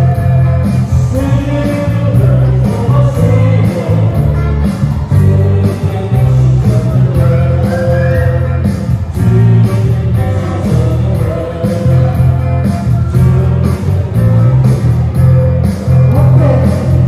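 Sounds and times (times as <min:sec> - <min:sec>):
electric bass guitar: 0:00.0 - 0:17.0
live band playing: 0:00.0 - 0:17.0
person singing: 0:00.0 - 0:17.0.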